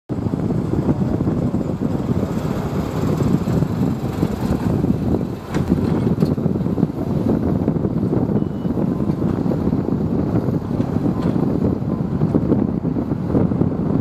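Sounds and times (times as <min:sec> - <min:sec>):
jet engines rumbling: 0:00.1 - 0:14.0
wind buffeting microphone: 0:00.1 - 0:14.0.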